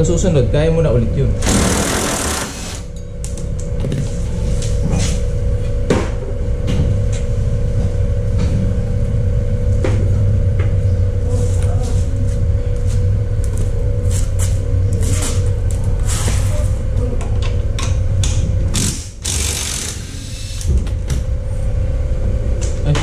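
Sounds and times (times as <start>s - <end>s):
machine rumble and hum: 0.0s - 23.0s.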